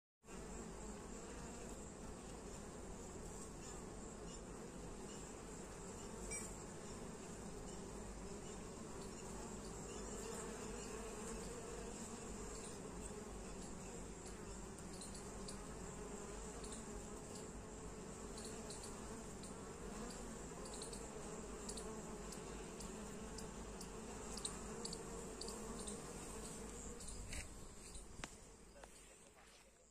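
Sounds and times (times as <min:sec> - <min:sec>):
bees buzzing: 0:00.3 - 0:29.0.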